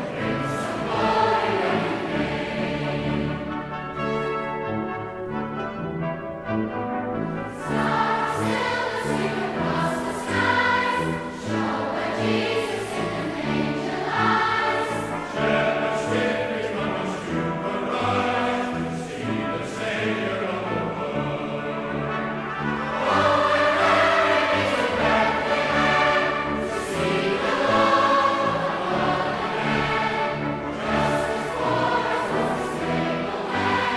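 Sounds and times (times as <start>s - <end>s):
choir singing: 0.0s - 5.2s, 6.9s - 33.9s
brass and orchestral accompaniment: 0.0s - 33.9s.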